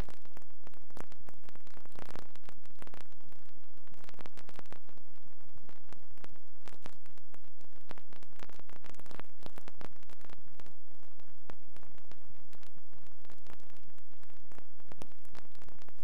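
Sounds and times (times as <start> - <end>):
static hiss with crackles: 0.0 - 16.0.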